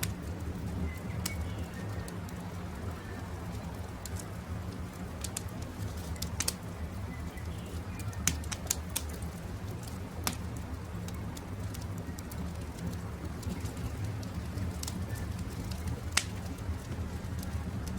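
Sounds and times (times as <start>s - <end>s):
wood campfire crackling: 0.0s - 17.9s.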